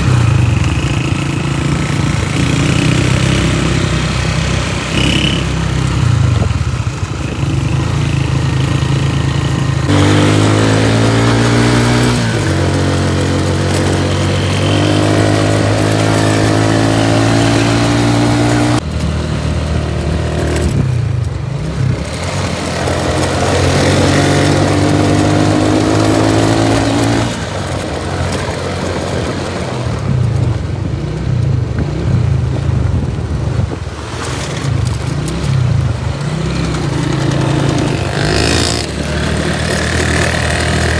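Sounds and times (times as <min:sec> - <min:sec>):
motorcycle engine accelerating: 0:00.0 - 0:40.9
rushing wind noise: 0:00.0 - 0:40.9.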